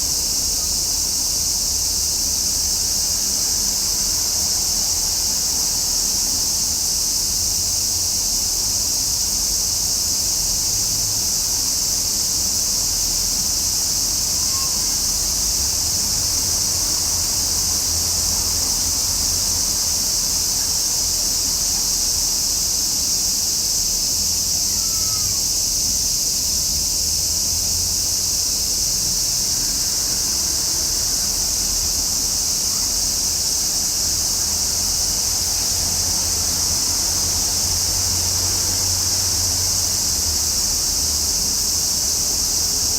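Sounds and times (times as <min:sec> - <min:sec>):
cicadas singing: 0:00.0 - 0:42.9.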